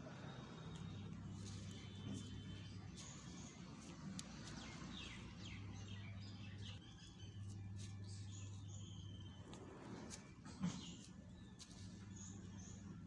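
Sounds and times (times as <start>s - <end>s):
steady low hum: 0.0s - 13.0s
small birds chirping: 0.3s - 13.0s.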